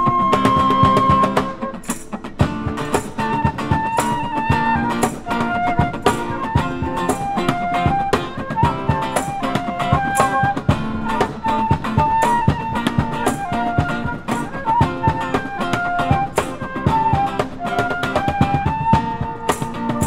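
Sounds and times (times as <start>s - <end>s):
cajon played by hand: 0.0s - 20.0s
flute melody: 0.0s - 20.0s.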